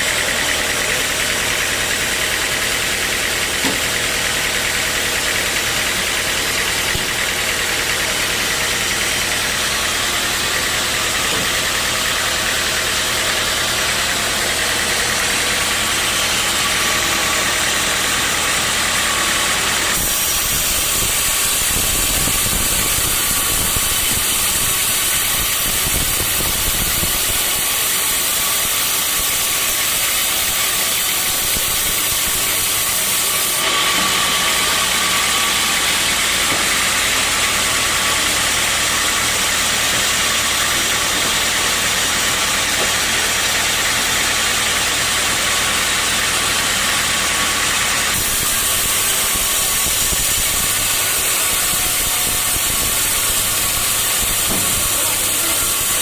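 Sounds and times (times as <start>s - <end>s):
rough noisy rumble: 0.0s - 56.0s
sawmill machinery humming: 0.0s - 56.0s.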